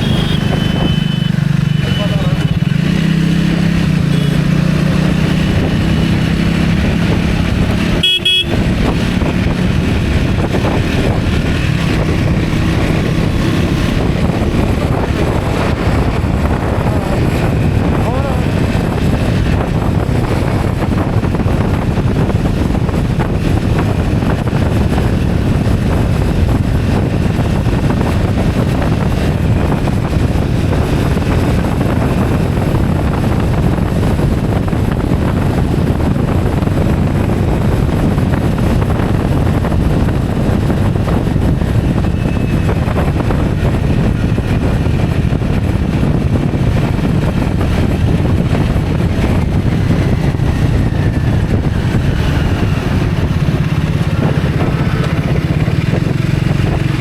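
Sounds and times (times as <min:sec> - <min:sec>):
vehicle running rumble: 0:00.0 - 0:57.0
wind on microphone: 0:00.0 - 0:57.0.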